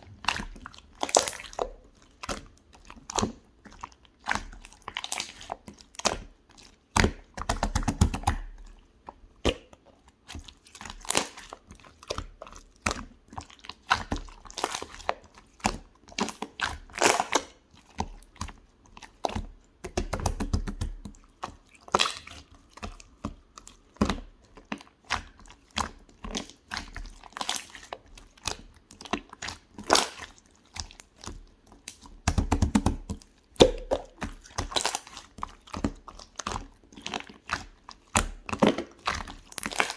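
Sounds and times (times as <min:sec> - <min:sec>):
slime squeezed with wet pops: 0:00.2 - 0:08.8, 0:09.4 - 0:39.9.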